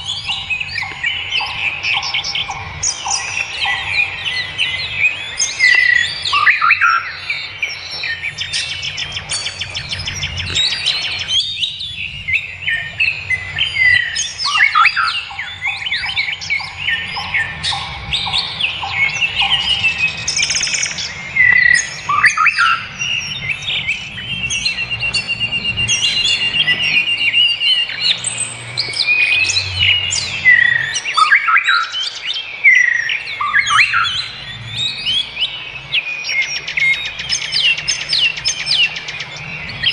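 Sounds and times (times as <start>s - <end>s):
forest birds singing: 0.0s - 39.9s.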